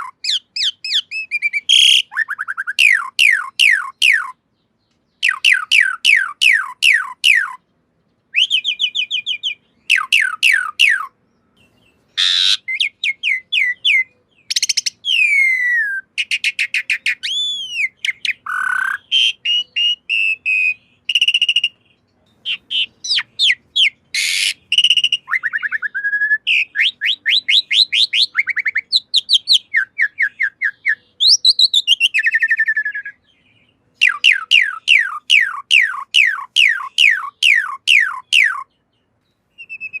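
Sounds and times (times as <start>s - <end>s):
starling whistled song: 0.0s - 4.4s, 5.1s - 7.6s, 8.3s - 40.0s.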